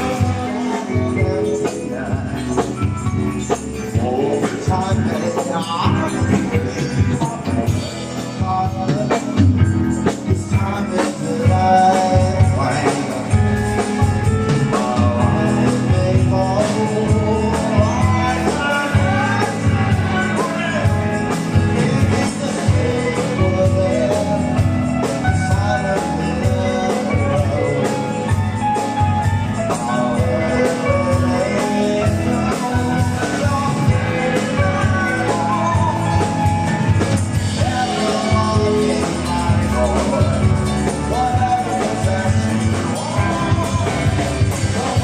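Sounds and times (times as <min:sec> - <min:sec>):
drums: 0:00.0 - 0:45.0
person singing: 0:00.0 - 0:45.0
rock band playing: 0:00.0 - 0:45.0
tambourine: 0:00.0 - 0:45.0.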